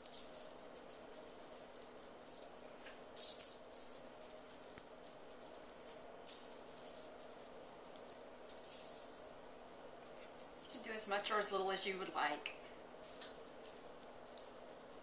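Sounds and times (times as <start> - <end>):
steady low hum: 0.0 - 15.0
sugar granules pattering on foil: 0.0 - 15.0.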